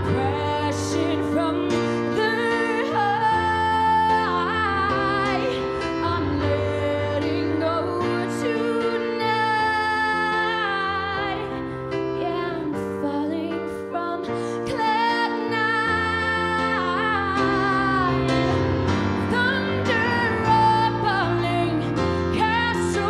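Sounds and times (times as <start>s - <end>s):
woman singing into a microphone: 0.0s - 23.0s.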